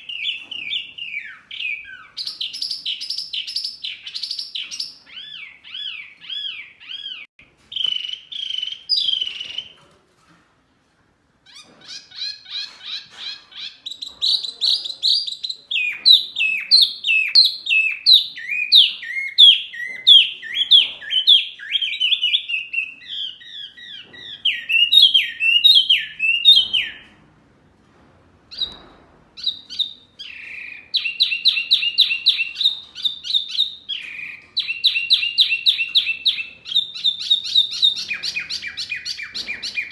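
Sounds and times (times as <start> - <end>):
songbird singing whistled notes: 0.0 - 9.8, 13.6 - 27.0, 29.4 - 39.9.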